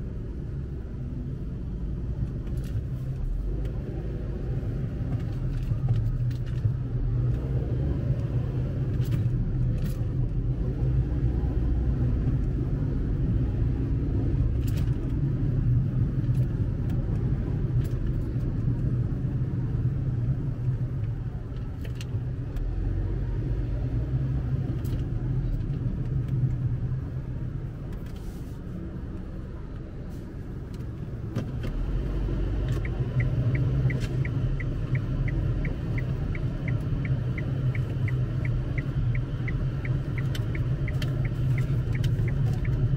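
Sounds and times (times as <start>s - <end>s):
car engine rumble: 0.0s - 42.9s
road noise: 0.0s - 42.9s.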